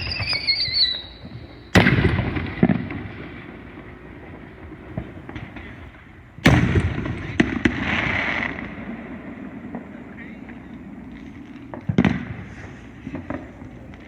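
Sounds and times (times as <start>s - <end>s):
fireworks bangs with rolling rumble: 0.0s - 14.0s.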